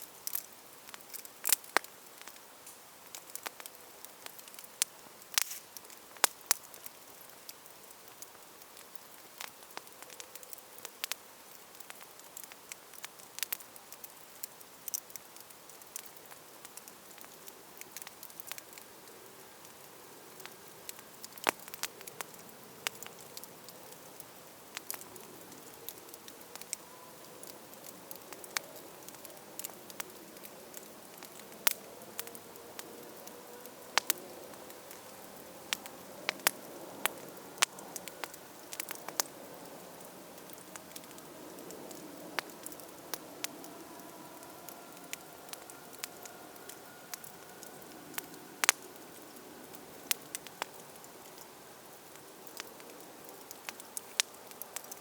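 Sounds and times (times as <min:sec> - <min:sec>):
campfire crackling and popping: 0:00.0 - 0:55.0
soft hiss of fire: 0:00.0 - 0:55.0.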